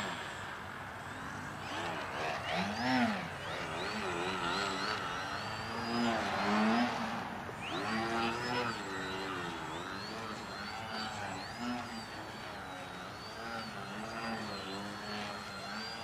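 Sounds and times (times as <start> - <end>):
high whine: 0.0 - 16.0
model plane electric motor and propeller: 0.0 - 16.0.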